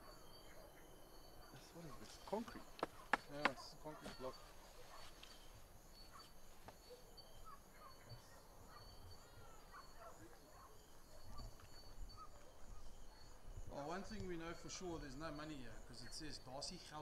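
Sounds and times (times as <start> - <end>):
pulsing insect trill: 0.0 - 17.0.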